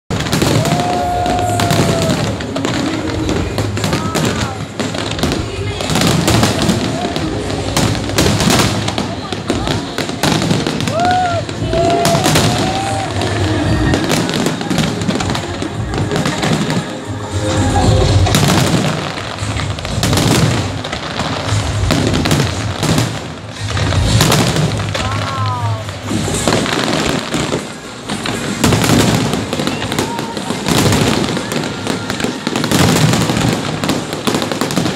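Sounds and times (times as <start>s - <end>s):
fireworks bangs and crackles: 0.1s - 34.9s.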